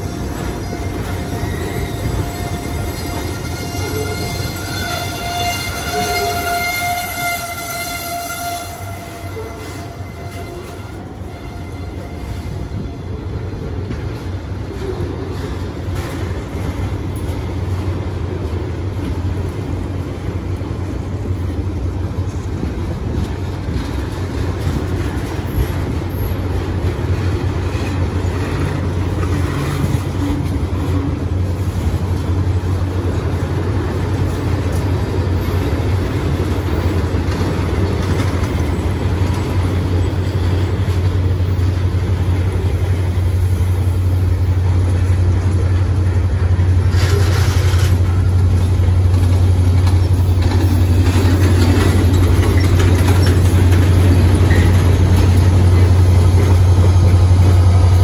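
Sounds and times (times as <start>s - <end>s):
low locomotive drone: 0.0s - 58.0s
steel wheels rumbling on rail: 0.0s - 58.0s.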